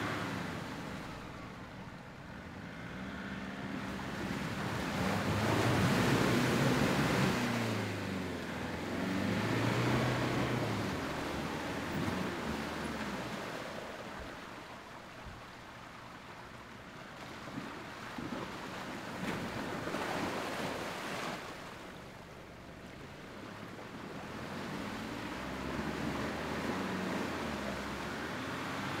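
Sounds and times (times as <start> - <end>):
off-road vehicle engine running: 0.0 - 20.8, 21.5 - 29.0
muddy water splashing: 0.0 - 29.0.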